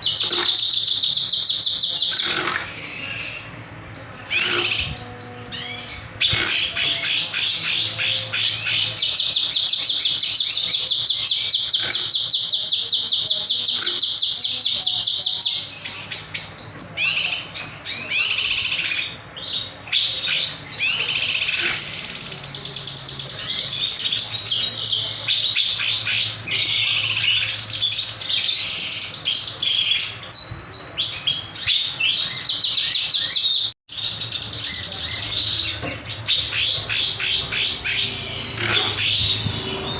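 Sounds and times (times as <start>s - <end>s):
songbird trilling and chattering: 0.0s - 39.9s.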